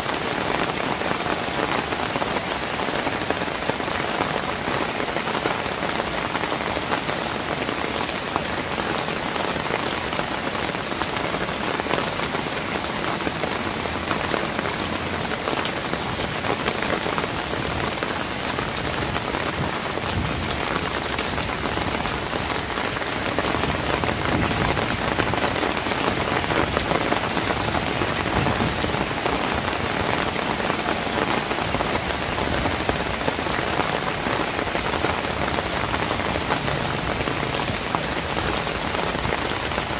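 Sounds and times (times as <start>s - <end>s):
rain on pavement and roofs: 0.0s - 39.9s.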